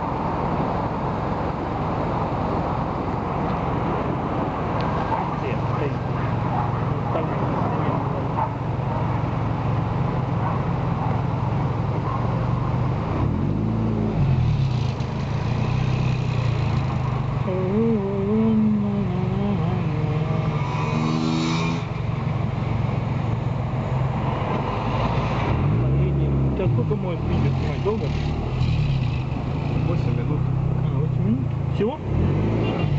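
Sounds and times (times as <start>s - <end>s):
car engine and road hum: 0.0s - 32.9s.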